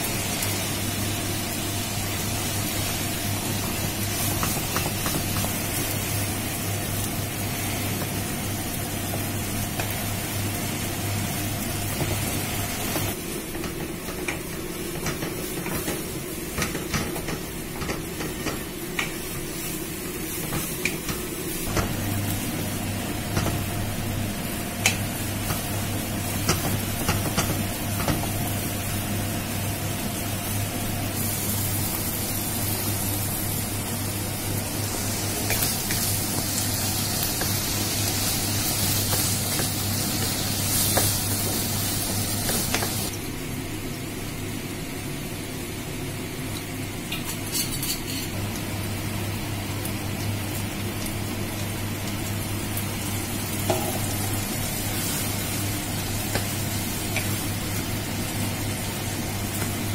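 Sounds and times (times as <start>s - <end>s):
meat sizzling in a pan: 0.0s - 43.2s, 47.1s - 59.9s.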